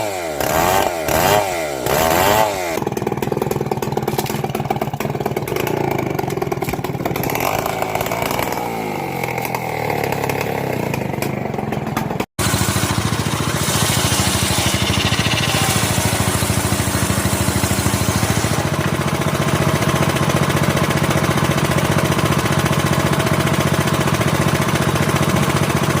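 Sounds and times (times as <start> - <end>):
chainsaw engine running: 0.0 - 26.0.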